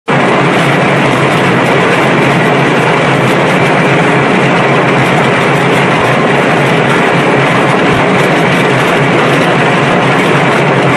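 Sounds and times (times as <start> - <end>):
drilling rig machinery running: 0.1 - 10.9.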